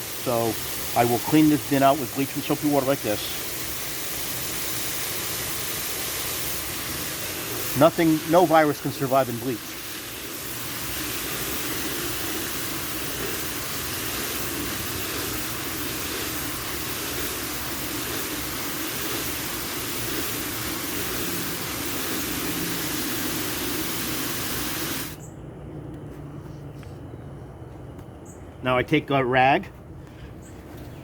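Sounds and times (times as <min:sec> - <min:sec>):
hose water running into tub: 0:00.0 - 0:25.2.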